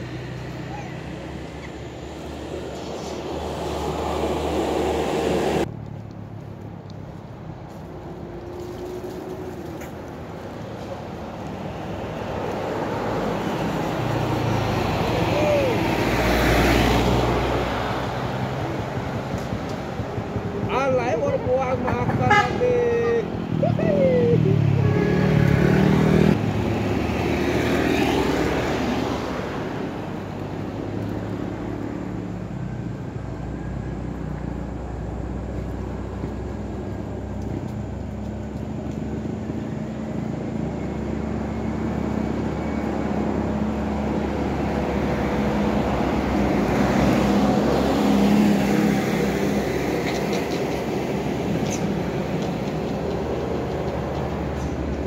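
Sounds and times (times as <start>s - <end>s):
hum of road traffic: 0.0s - 55.0s
vehicle passing: 0.0s - 55.0s.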